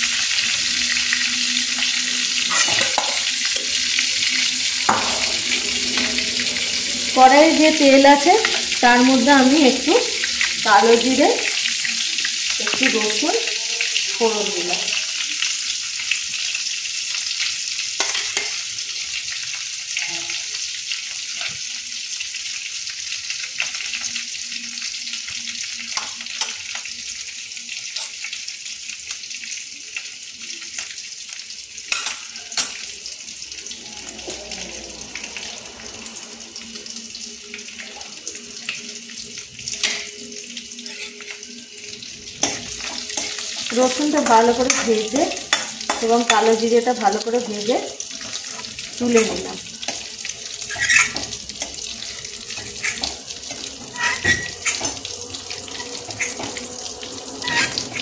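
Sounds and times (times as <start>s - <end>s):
seeds sizzling in hot oil: 0.0s - 58.0s.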